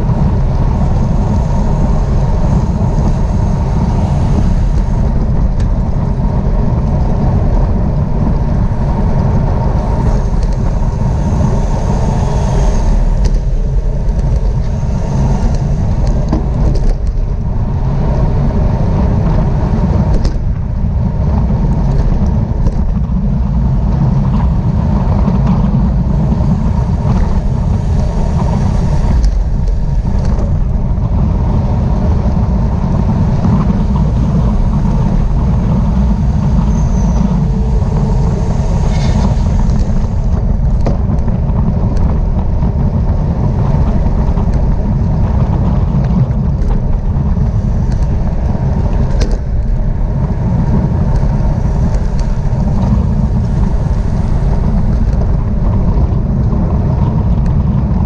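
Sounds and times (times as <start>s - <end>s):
tyre and road noise: 0.0s - 58.0s
wind rush over microphone: 0.0s - 58.0s.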